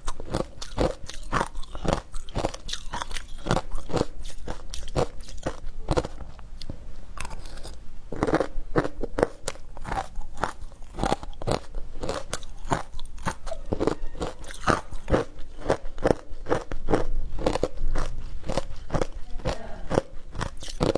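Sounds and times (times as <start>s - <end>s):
person chewing crunchy ice: 0.0s - 20.9s.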